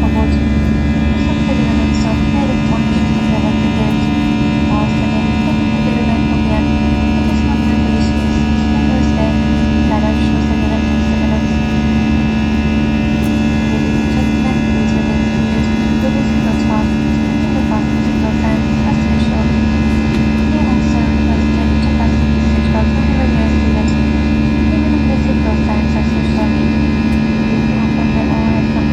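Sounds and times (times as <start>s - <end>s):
constant tones: 0.0s - 28.9s
jet engine cabin drone: 0.0s - 28.9s.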